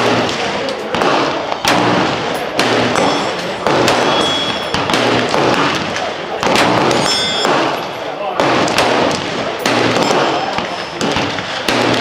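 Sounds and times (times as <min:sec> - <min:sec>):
background noise: 0:00.0 - 0:12.0
gunshots: 0:00.0 - 0:12.0
indistinct voices: 0:00.0 - 0:12.0.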